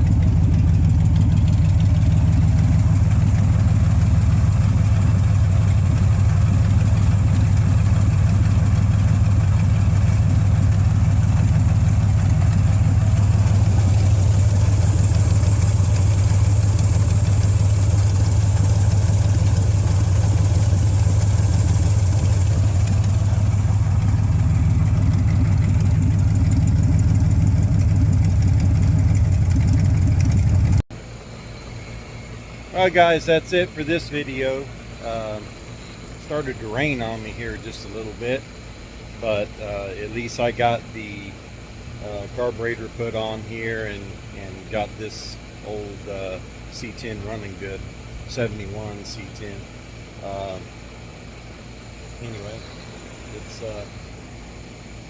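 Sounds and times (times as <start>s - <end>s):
pickup engine idling: 0.0s - 55.0s.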